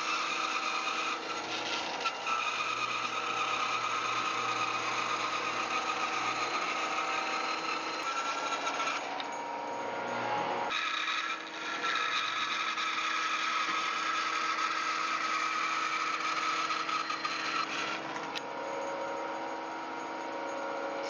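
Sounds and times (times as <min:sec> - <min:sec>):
power tool cutting wood: 0:00.0 - 0:09.4, 0:10.2 - 0:18.5.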